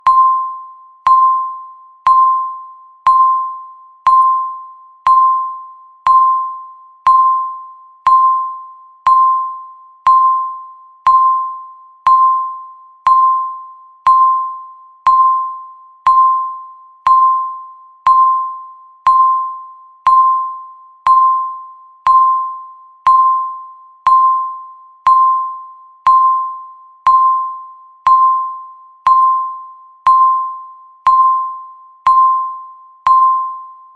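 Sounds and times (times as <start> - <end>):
countdown timer beeping: 0.0 - 33.9.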